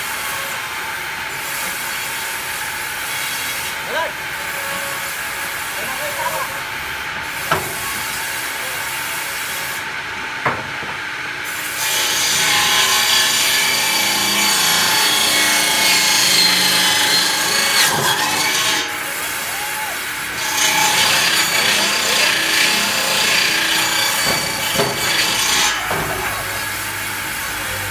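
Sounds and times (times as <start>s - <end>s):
power saw cutting wood: 0.0s - 10.3s, 11.4s - 27.9s.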